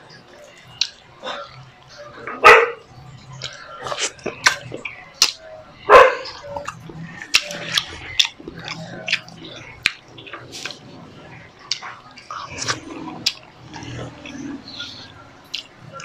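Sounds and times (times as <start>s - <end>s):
chewing and lip-smacking: 0.1s - 2.1s, 3.1s - 5.5s, 6.1s - 16.0s.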